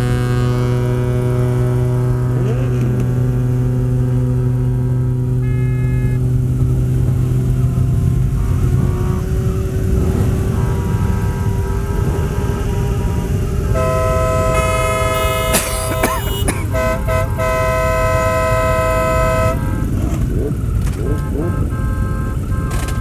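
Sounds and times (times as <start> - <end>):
long horn blasts: 0.0 - 23.0
motorcycle engines revving: 0.0 - 23.0.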